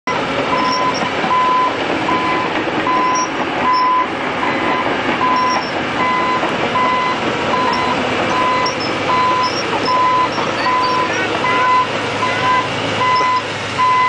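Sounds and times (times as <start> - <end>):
engine rumble: 0.1 - 14.0
reversing alarm beeping: 0.1 - 14.0.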